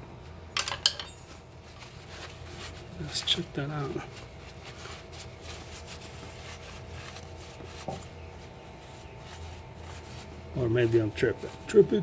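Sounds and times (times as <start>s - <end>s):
low steady hum: 0.0s - 12.0s
faint rubbing and handling: 1.2s - 12.0s.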